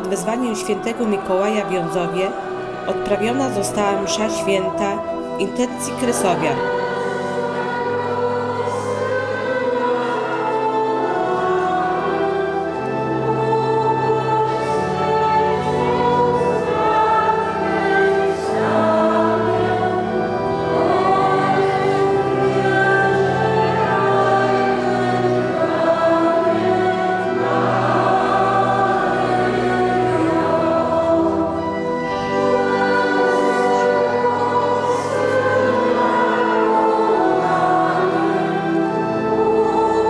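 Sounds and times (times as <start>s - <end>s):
congregation singing a hymn: 0.0s - 40.0s
organ sustained low notes: 0.0s - 40.0s.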